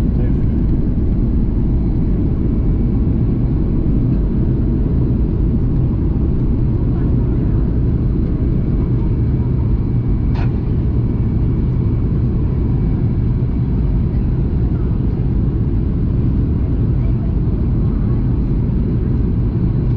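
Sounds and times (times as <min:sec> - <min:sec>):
airplane cabin drone: 0:00.0 - 0:19.9.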